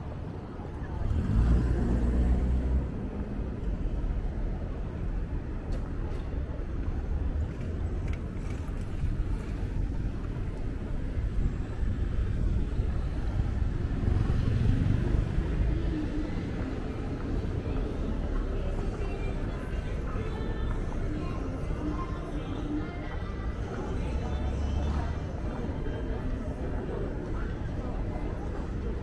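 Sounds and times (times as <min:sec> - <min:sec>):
low street rumble: 0:00.0 - 0:29.0.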